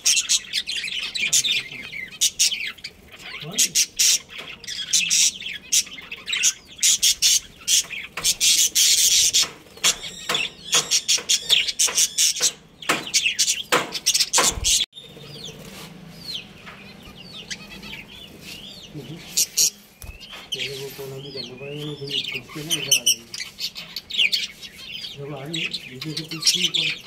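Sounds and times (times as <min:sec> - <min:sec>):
budgerigars chirping and squawking: 0:00.0 - 0:27.0.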